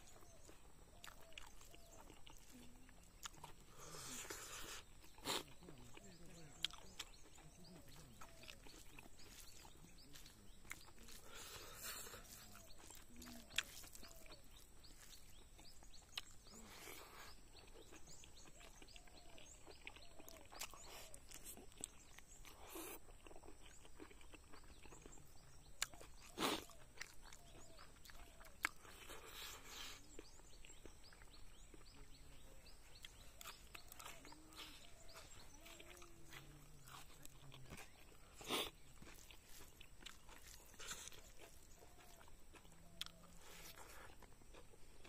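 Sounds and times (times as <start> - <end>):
chewing and lip smacking: 0.0 - 45.0.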